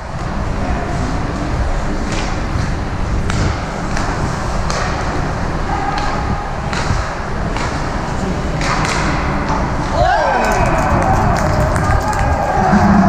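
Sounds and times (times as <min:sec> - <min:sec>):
low arena rumble: 0:00.0 - 0:13.0
hockey sticks and puck clacking: 0:02.0 - 0:13.0.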